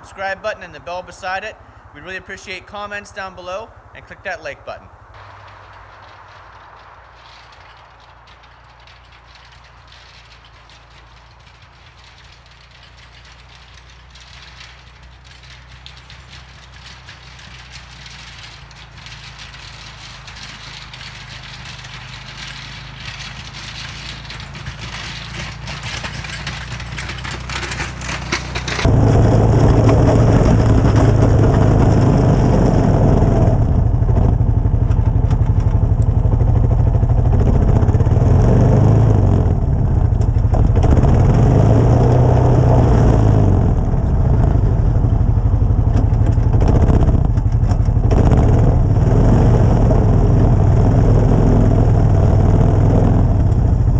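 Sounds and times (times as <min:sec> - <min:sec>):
atv engine under load: 0:04.9 - 0:53.9.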